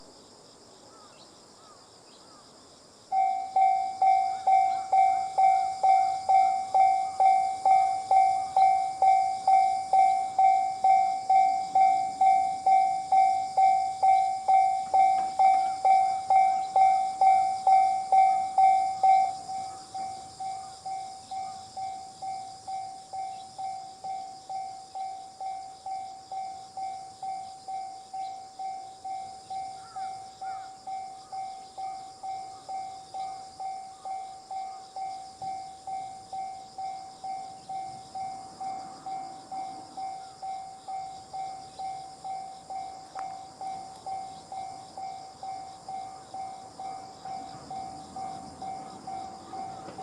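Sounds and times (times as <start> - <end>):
level crossing alarm dings: 3.1 - 50.0.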